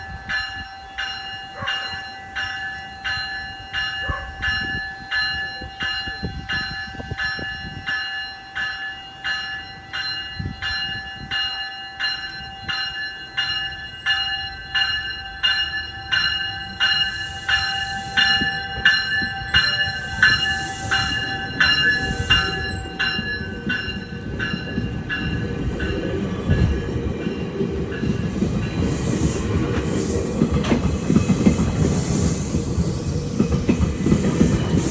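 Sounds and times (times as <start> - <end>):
railway warning bell ringing: 0.0 - 34.9
train rumbling past: 0.0 - 34.9.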